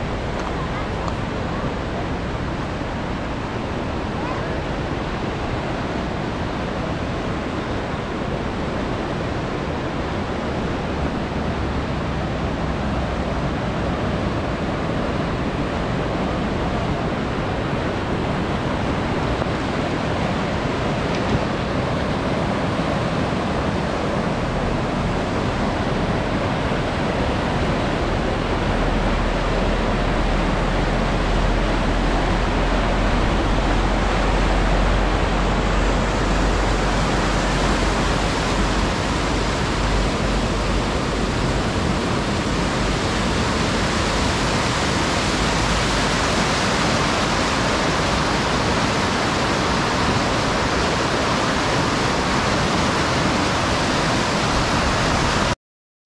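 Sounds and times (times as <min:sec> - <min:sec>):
river rapids rushing: 0:00.0 - 0:55.6.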